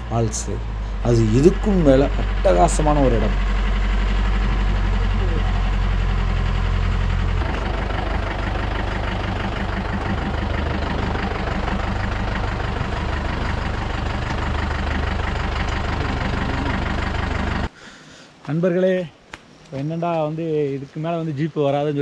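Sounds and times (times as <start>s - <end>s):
jeep engine running: 0.0s - 17.8s.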